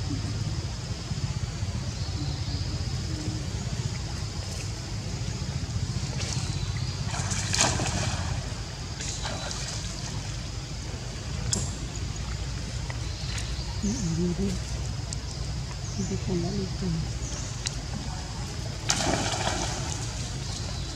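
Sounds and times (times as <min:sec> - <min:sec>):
steady low rumble: 0:00.0 - 0:20.9
water splashing: 0:02.2 - 0:20.9.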